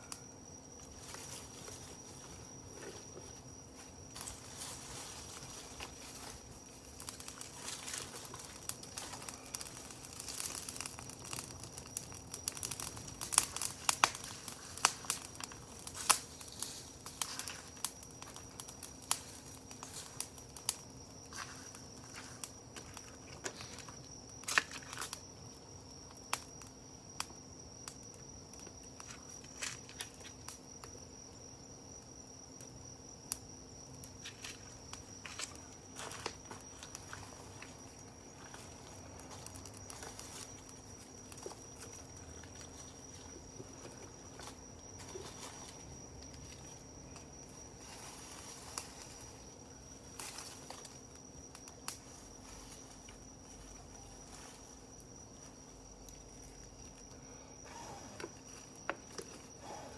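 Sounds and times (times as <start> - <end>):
campfire crackling: 0.0 - 59.9
high insect trill: 0.0 - 59.9.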